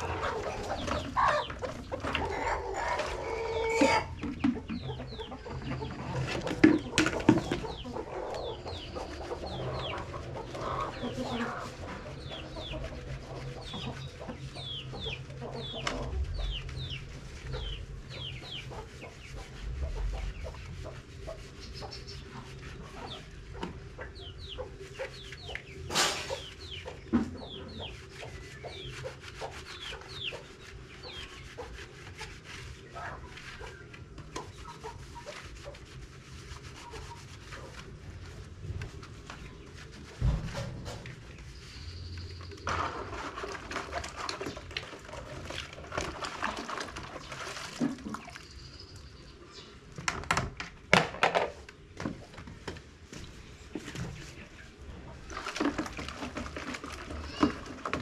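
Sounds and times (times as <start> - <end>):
chickens clucking: 0.0 - 50.5, 51.3 - 58.0.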